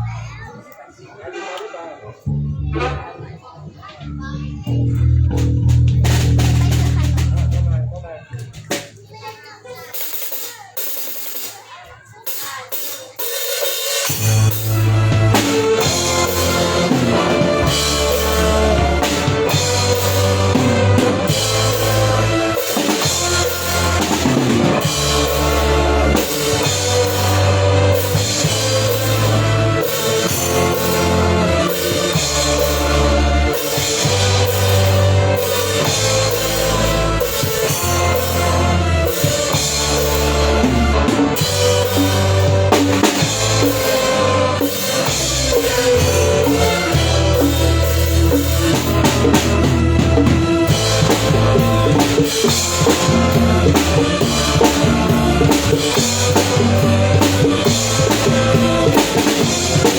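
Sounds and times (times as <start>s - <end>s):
low bass notes: 0.0s - 0.5s, 2.1s - 8.4s, 14.2s - 59.9s
live band playing: 0.0s - 59.9s
drum kit: 2.2s - 59.9s.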